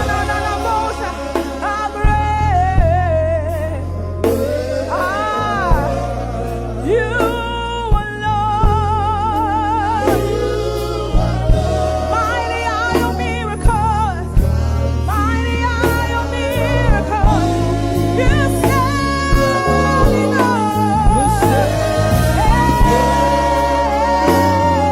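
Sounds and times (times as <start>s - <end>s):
gospel band playing: 0.0s - 24.9s
singer with wide vibrato: 0.0s - 24.9s.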